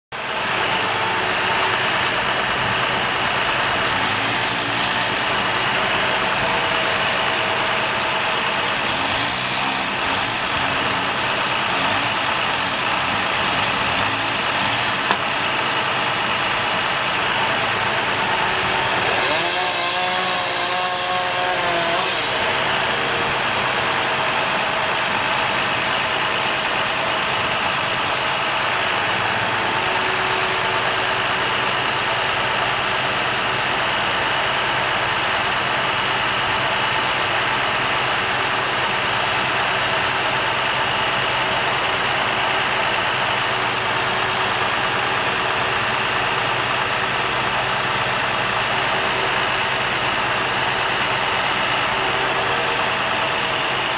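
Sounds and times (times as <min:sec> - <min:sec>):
truck engine running: 0:00.1 - 0:53.9.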